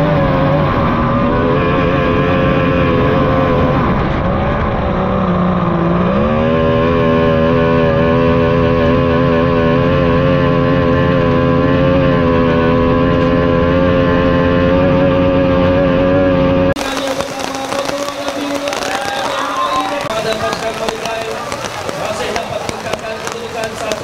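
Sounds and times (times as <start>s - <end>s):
outboard engine revving: 0.0s - 24.0s.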